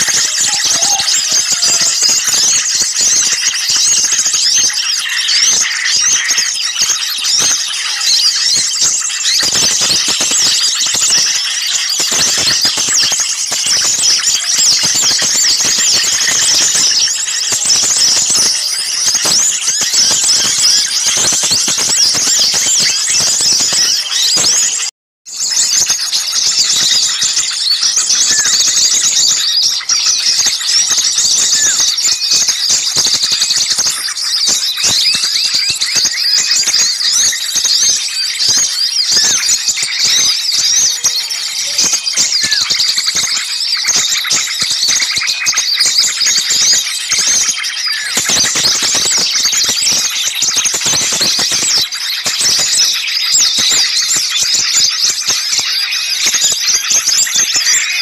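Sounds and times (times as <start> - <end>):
small songbirds chattering: 0.0 - 58.0.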